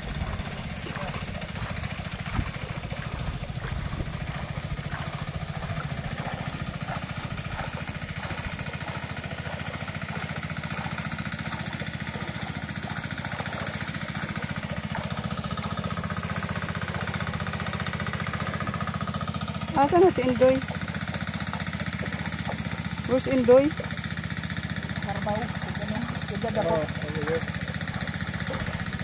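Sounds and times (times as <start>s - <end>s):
small engine running steadily: 0.0s - 29.0s.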